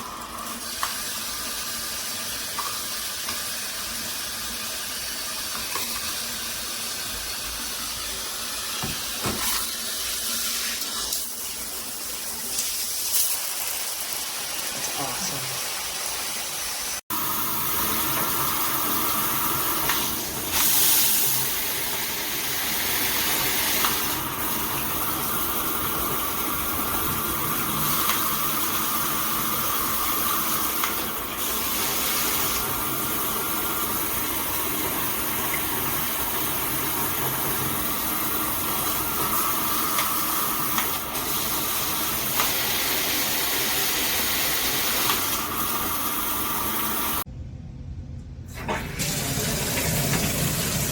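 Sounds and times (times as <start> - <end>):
shower head spraying water: 0.0 - 47.3, 48.6 - 50.9.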